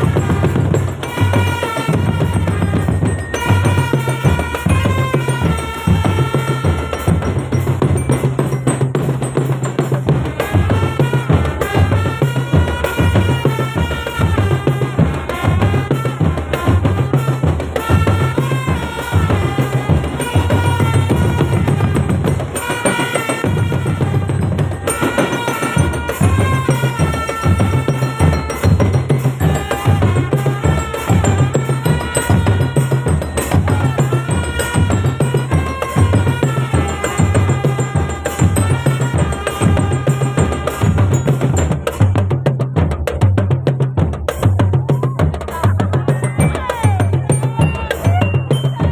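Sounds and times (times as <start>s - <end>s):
marching drum band playing: 0.0s - 48.9s.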